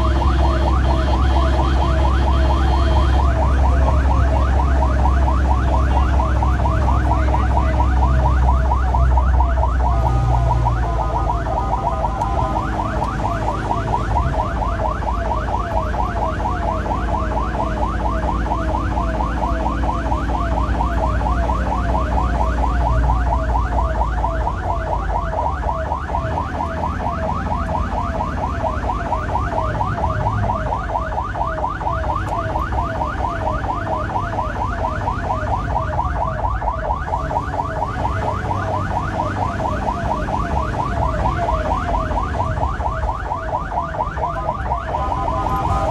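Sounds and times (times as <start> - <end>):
ambulance siren yelping: 0.0 - 45.9
engine drone and road noise: 0.0 - 45.9.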